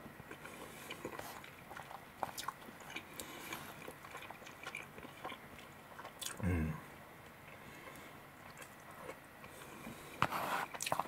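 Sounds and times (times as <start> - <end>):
person chewing food: 0.2 - 11.0.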